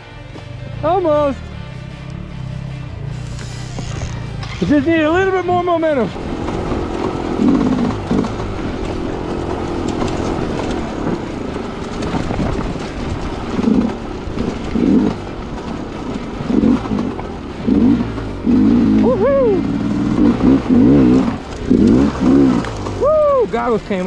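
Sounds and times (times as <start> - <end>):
dirt bike engine revving: 0.5 - 24.0.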